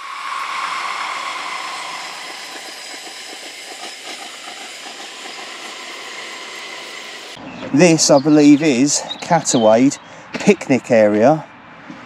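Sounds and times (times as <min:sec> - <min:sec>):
passenger train running: 0:00.0 - 0:10.0.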